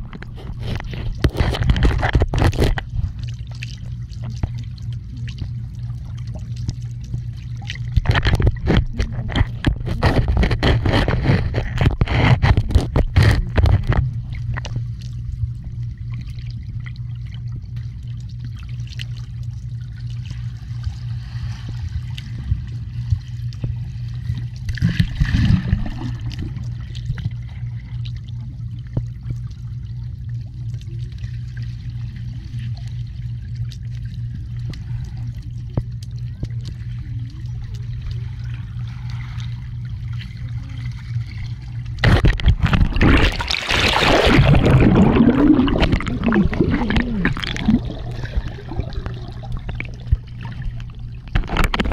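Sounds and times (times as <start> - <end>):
bubbling churning water: 0.0 - 51.9
underwater low hum: 0.0 - 51.9.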